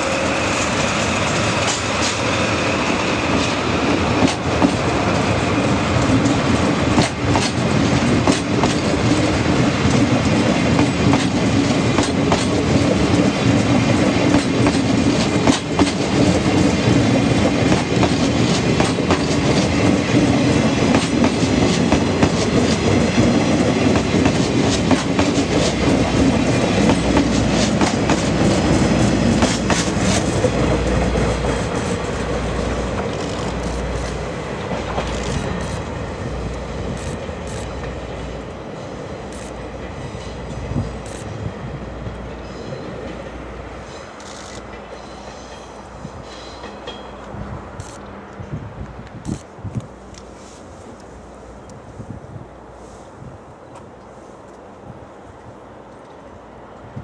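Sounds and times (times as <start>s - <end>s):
train wheels clicking over rail joints: 0.4s - 41.5s, 42.1s - 50.3s.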